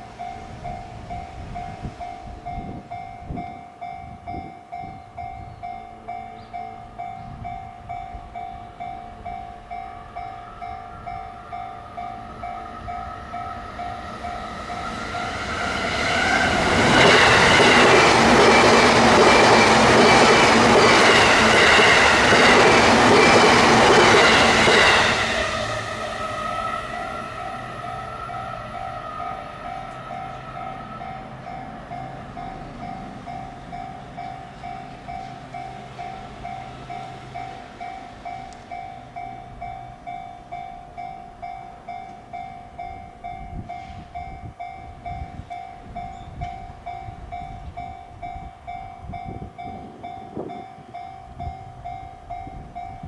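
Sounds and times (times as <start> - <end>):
train rumble and wheel clatter: 0.0 - 53.0.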